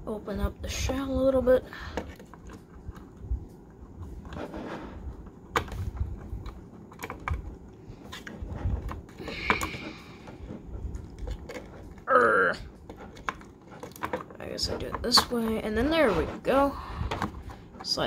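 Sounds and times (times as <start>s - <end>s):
rubbing and handling noise: 0.0s - 18.0s.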